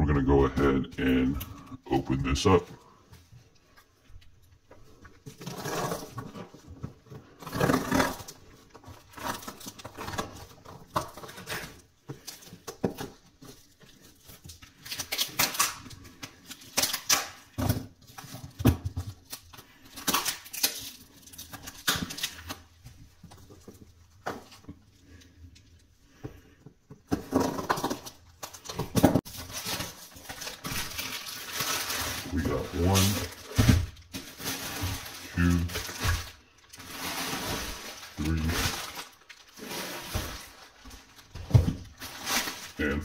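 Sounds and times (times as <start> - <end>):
plastic wrap crinkling: 1.0 - 43.0.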